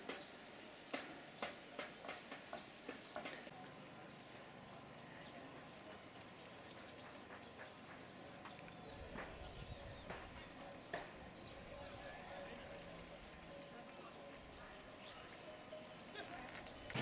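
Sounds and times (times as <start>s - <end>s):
high-pitched insect buzz: 0.0s - 17.0s.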